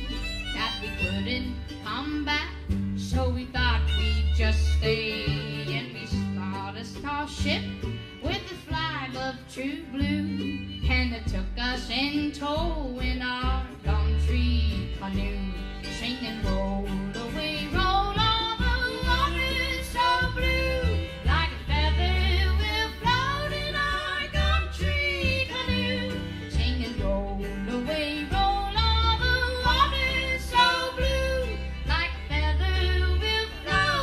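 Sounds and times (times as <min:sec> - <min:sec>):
acoustic guitar: 0:00.0 - 0:34.0
fiddle melody: 0:00.0 - 0:34.0
mandolin: 0:00.0 - 0:34.0
upright bass: 0:00.0 - 0:34.0.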